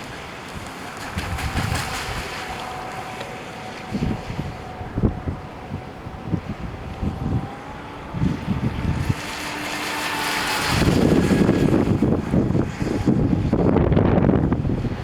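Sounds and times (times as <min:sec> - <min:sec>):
electric boat motor whining: 0:00.0 - 0:15.0
wind buffeting microphone: 0:00.0 - 0:15.0.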